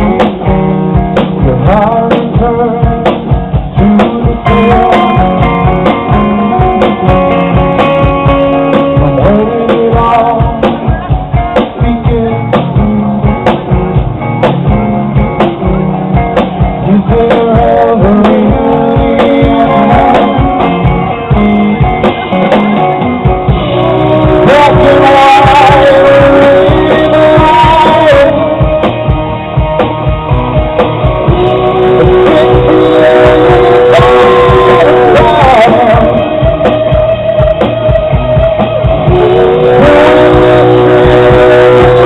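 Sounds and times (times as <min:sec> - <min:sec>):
bass: 0:00.0 - 0:42.0
drum beat: 0:00.0 - 0:42.0
guitar: 0:00.0 - 0:42.0.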